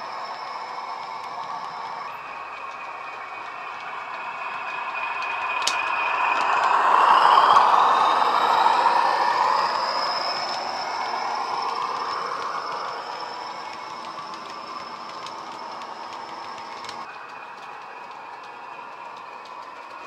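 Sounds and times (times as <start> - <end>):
turbocharger whistle: 0.0 - 20.0.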